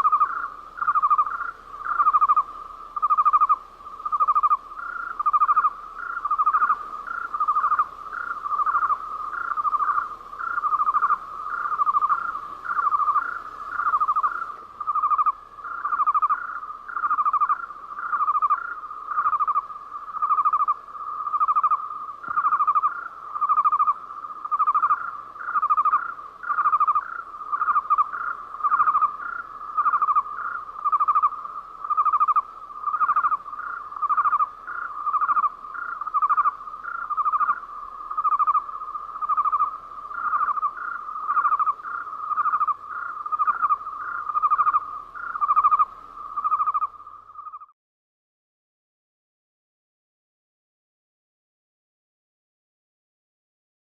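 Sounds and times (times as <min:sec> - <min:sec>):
cricket chirping: 0:00.0 - 0:47.7.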